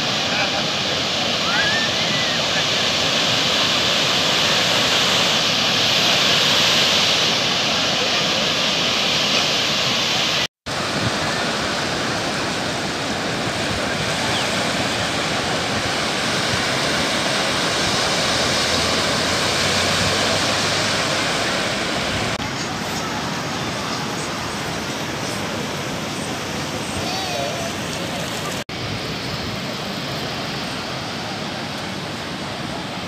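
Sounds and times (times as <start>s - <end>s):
surf breaking on beach: 0.0s - 33.0s.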